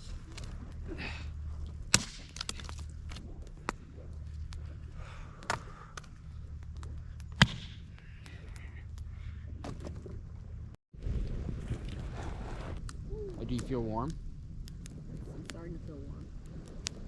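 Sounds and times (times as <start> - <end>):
campfire crackling and popping: 0.0 - 9.4, 11.0 - 17.0
steady low rumble: 0.0 - 17.0.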